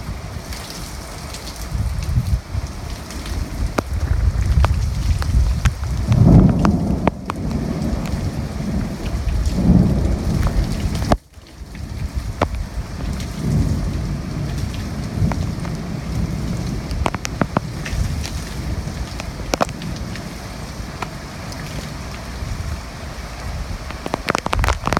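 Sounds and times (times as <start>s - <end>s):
heavy rain falling: 0.0s - 24.9s
raindrops ticking close by: 0.0s - 24.9s
thunder rumbling: 1.8s - 11.2s, 11.8s - 24.9s.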